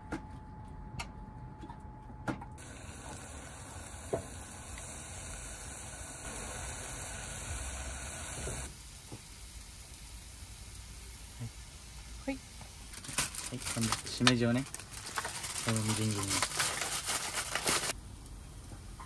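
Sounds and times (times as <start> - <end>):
vegetables sizzling in a pan: 2.6 - 18.0.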